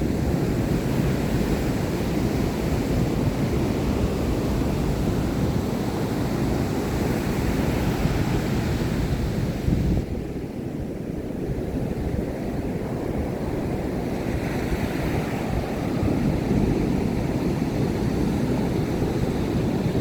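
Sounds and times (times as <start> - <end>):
ocean surf washing onto beach: 0.0 - 20.0
wind rumbling on microphone: 0.0 - 20.0.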